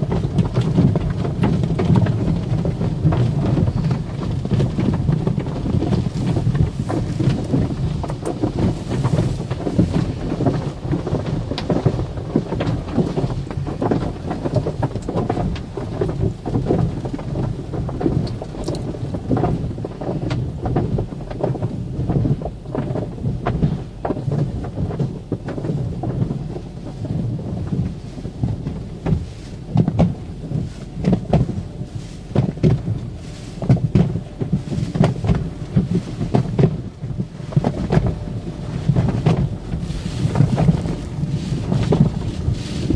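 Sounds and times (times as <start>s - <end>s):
water drumming on car body: 0.0s - 42.9s.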